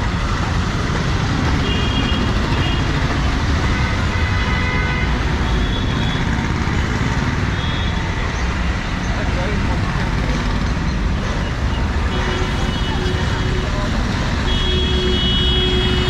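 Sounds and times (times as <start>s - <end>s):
street traffic on wet road: 0.0s - 16.0s.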